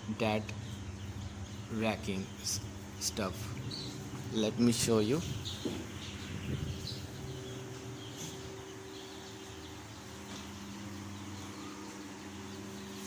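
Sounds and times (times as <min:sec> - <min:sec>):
chicks peeping: 0:00.0 - 0:13.0
steady low hum: 0:00.0 - 0:13.0.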